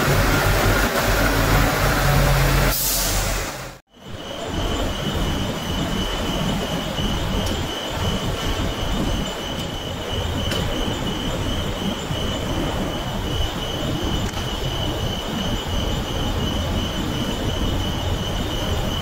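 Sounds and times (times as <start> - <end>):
high-pitched whine: 0.0 - 19.0
machinery running: 0.0 - 19.0.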